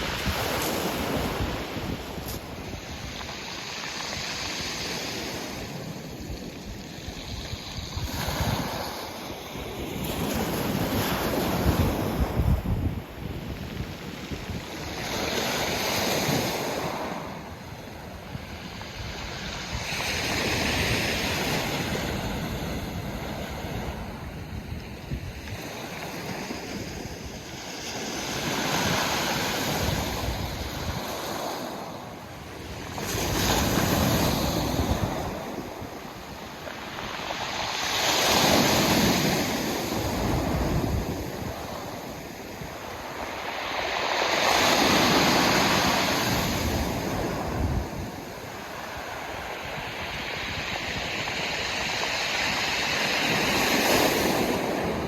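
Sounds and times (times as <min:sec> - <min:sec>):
waves breaking on pebble beach: 0:00.0 - 0:55.0
wind noise on microphone: 0:00.0 - 0:55.0.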